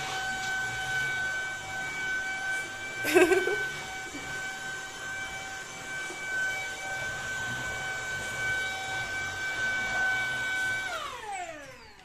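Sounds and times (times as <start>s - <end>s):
handheld vacuum whining: 0.0s - 12.0s.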